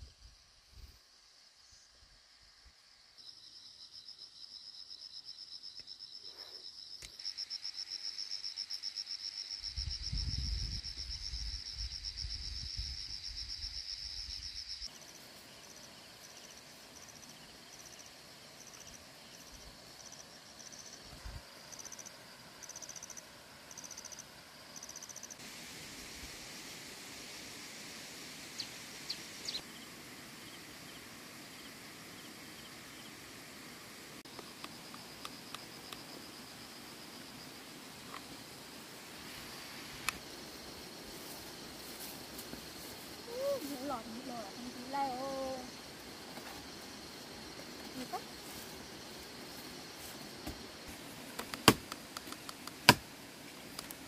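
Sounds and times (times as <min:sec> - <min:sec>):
insect chirping in bursts: 0:00.0 - 0:54.0
insects chirring: 0:00.0 - 0:54.0.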